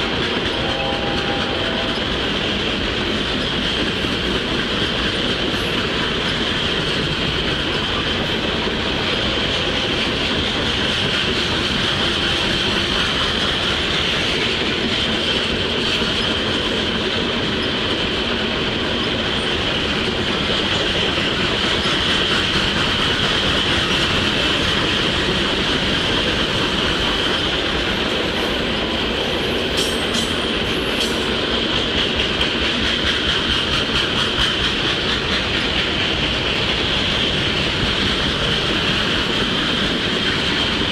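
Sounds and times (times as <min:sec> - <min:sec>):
wheels clacking over rail joints: 0:00.0 - 0:40.9.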